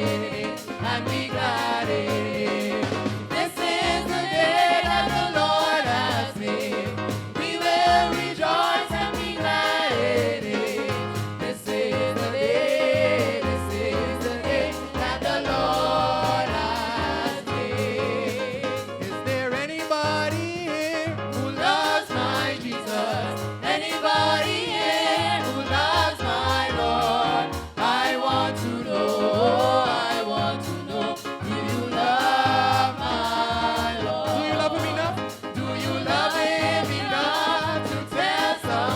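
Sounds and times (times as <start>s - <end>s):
group singing gospel song: 0.0s - 38.9s
instrumental accompaniment: 0.0s - 38.9s.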